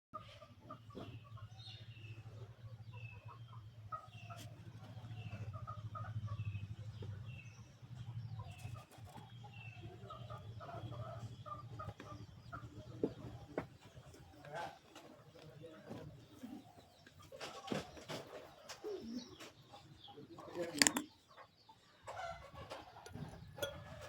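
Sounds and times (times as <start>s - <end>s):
small birds chirping: 0.2s - 24.0s.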